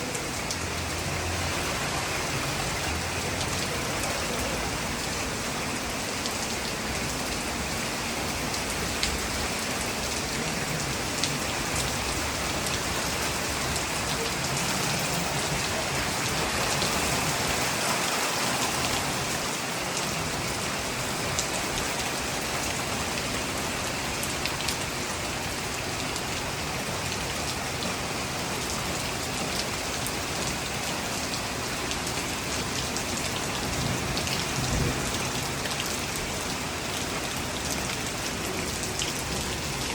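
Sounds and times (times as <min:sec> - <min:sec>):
heavy rain falling on ground: 0:00.0 - 0:39.9.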